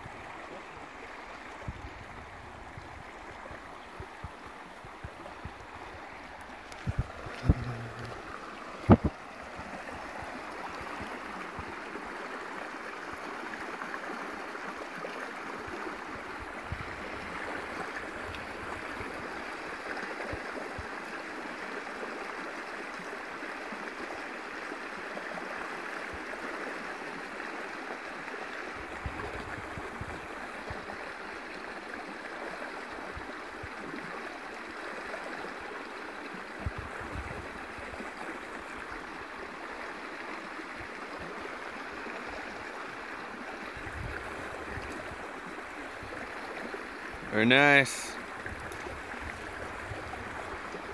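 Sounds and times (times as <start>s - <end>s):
stream flowing over rocks: 0.0s - 50.9s.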